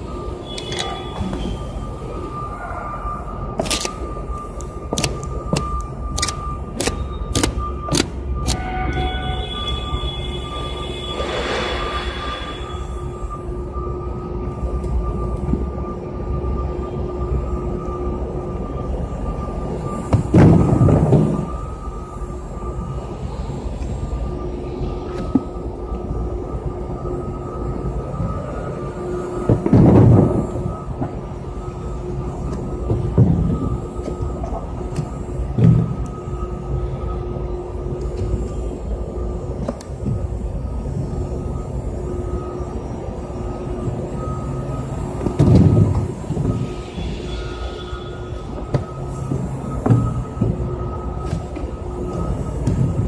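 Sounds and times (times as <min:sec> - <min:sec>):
faint high whine: 0:00.0 - 0:53.0
machinery hum: 0:00.0 - 0:53.0.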